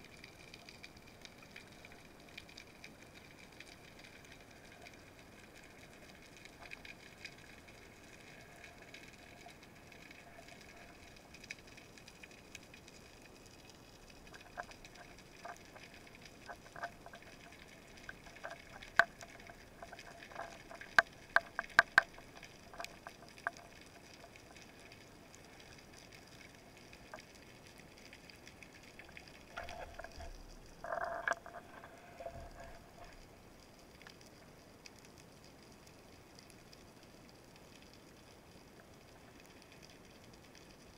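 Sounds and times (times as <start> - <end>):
faint underwater background: 0.0 - 40.9
sharp underwater clicks: 0.0 - 40.9.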